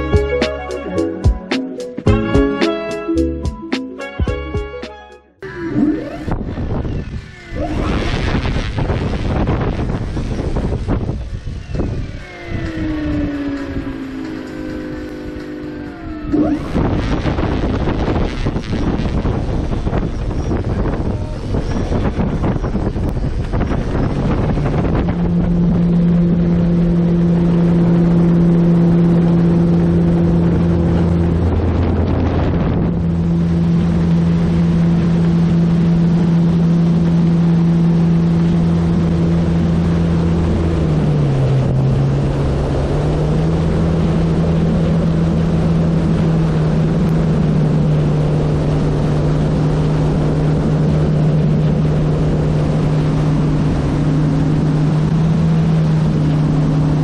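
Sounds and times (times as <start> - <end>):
model airplane motor humming: 5.4 - 57.0
wind rushing over microphone: 5.9 - 57.0.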